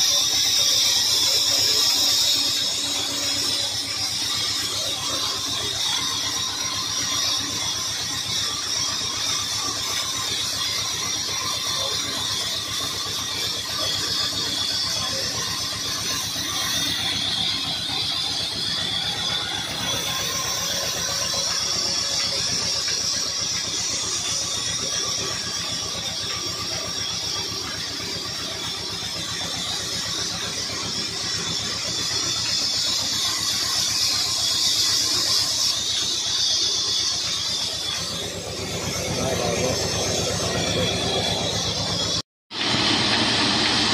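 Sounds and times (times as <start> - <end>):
band saw blade squealing: 0.0 - 42.2
diesel engine running: 0.0 - 43.9.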